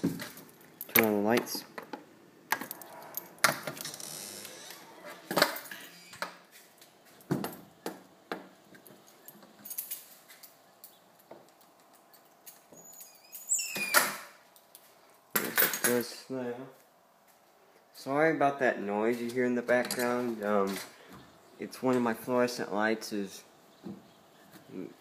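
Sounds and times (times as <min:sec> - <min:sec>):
fluorescent light hum: 0:00.0 - 0:25.0.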